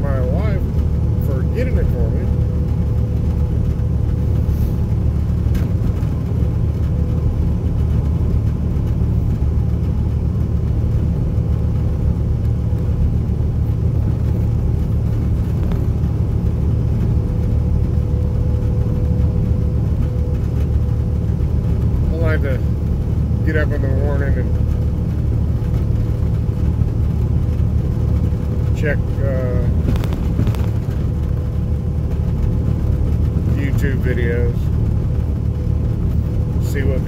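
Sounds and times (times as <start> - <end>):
diesel truck engine droning: 0.0 - 37.0.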